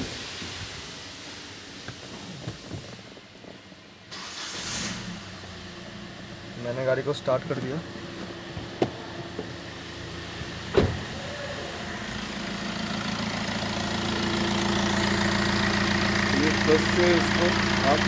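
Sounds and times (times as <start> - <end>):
car engine idling: 3.4 - 18.0.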